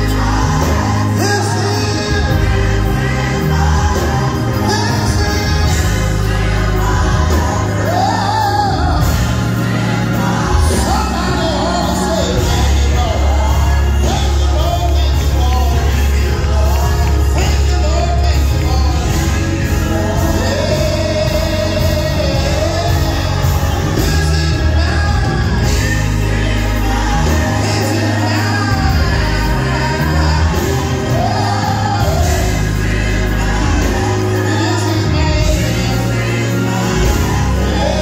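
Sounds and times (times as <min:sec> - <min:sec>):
band playing worship music: 0:00.0 - 0:38.0
people singing: 0:00.0 - 0:38.0.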